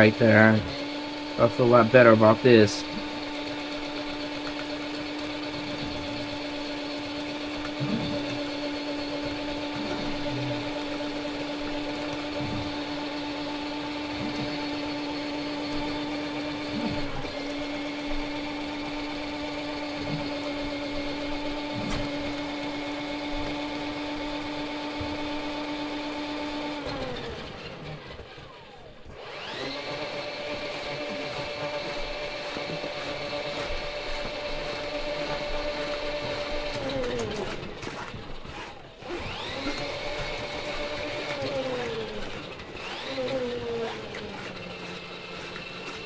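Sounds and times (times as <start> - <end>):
drain cleaning machine motor hum: 0.0 - 46.0.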